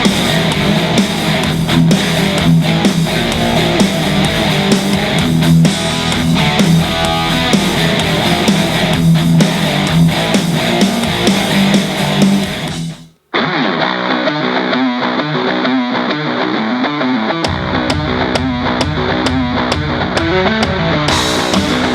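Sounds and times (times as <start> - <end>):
instrumental rock music: 0.0 - 21.9.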